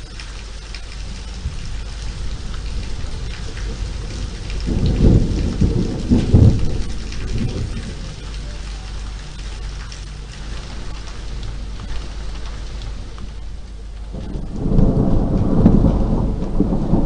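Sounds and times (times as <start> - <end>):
steady rain falling: 0.0 - 17.0
thunder rumbling: 0.0 - 17.0.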